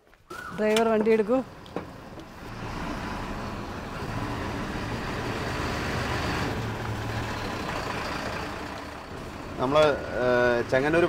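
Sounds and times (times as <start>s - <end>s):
lorry diesel engine at low revs: 1.1s - 11.0s.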